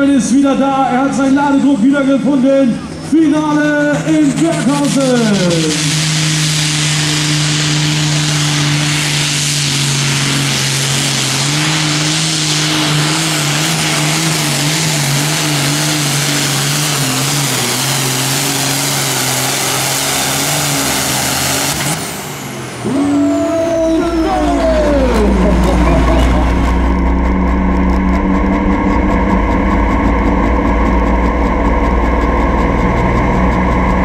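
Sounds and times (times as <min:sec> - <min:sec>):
tractor diesel engine at full load: 0:00.0 - 0:34.0.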